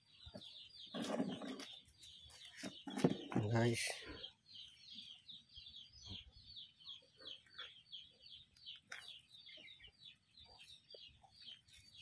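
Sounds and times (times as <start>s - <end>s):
bird peeping rapidly: 0.0s - 12.0s.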